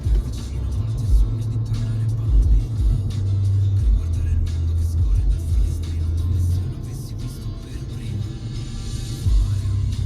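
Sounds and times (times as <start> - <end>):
car road rumble: 0.0 - 10.0
music with deep bass line: 0.0 - 10.0.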